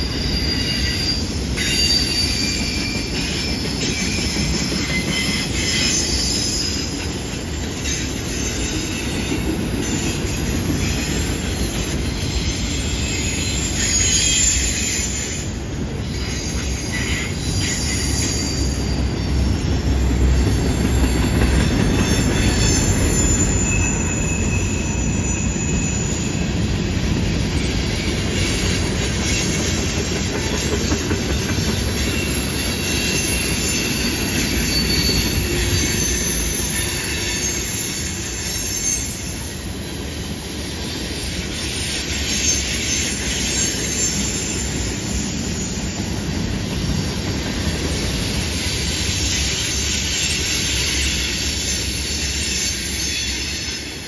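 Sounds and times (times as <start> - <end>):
high-pitched wheel squeals: 0.0 - 26.8, 27.5 - 39.8, 40.9 - 46.2, 48.0 - 54.0
rumble of train wheels on rail: 0.0 - 54.0.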